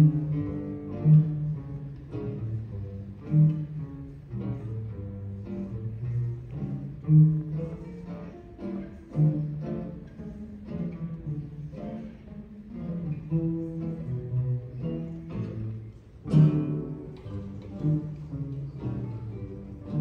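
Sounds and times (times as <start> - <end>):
classical guitar ensemble playing: 0.0 - 20.0.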